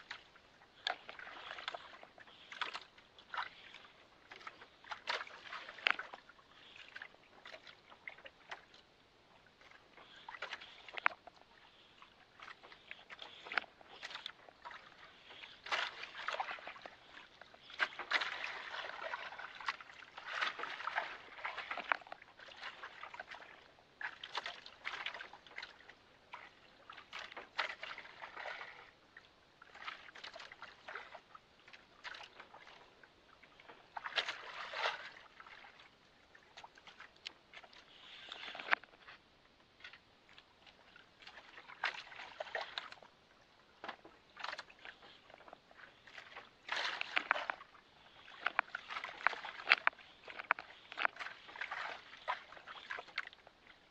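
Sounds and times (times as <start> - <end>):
water lapping against boat hull: 0.0 - 53.9.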